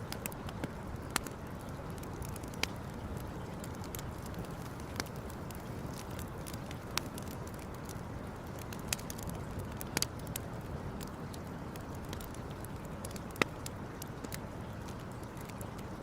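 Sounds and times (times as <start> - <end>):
campfire burning: 0.0 - 16.0
fire crackling pops: 0.0 - 16.0.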